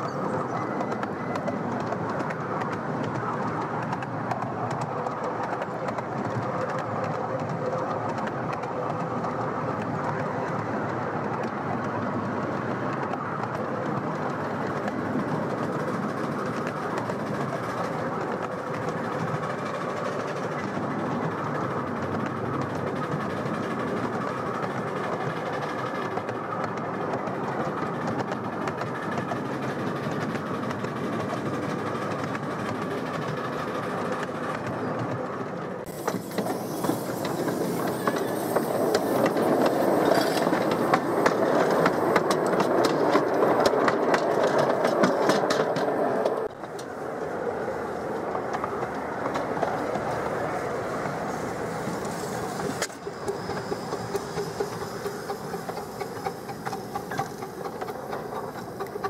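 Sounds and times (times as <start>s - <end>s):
carriages rolling past: 0.0s - 59.0s
miniature steam train rumbling: 0.0s - 59.0s
wheels clicking over rail joints: 0.0s - 59.0s.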